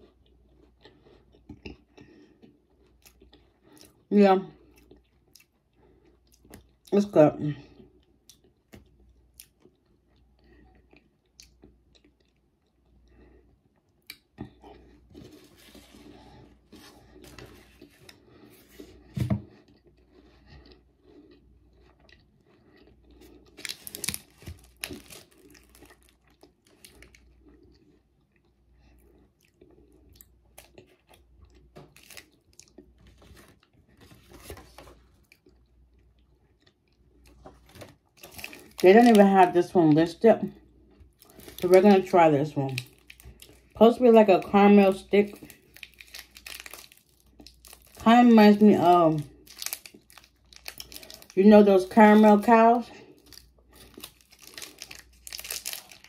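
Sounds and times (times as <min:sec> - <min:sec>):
person chewing crispy wafer: 0:00.0 - 0:39.5, 0:40.1 - 0:56.0.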